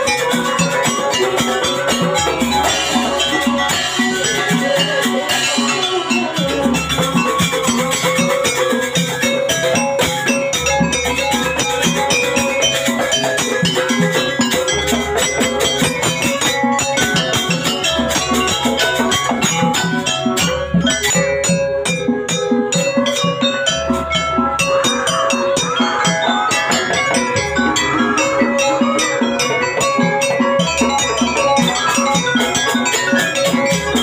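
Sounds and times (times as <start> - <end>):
drums at brisk beat: 0.0 - 34.0
tuned metal percussion: 0.0 - 34.0.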